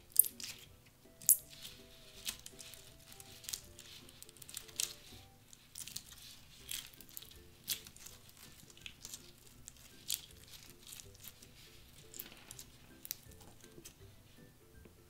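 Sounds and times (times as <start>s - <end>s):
soft background music: 0.0s - 15.0s
slime crackling and tearing: 0.2s - 13.8s.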